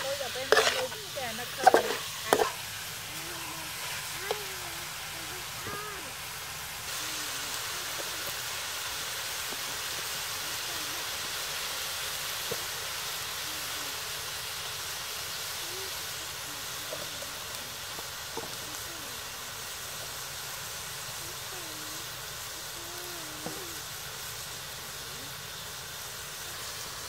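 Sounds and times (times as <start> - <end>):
beef sizzling in wok: 0.0 - 27.0.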